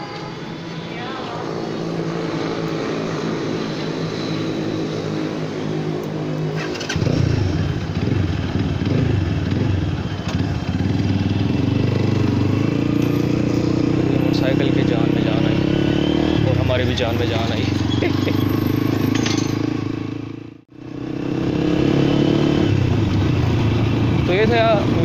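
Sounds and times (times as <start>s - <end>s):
motorcycle engine revving: 1.4s - 25.0s.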